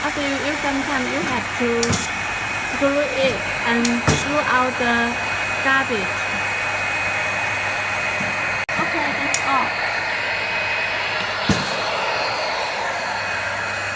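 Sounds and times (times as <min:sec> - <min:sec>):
washing machine air rushing: 0:00.0 - 0:13.9.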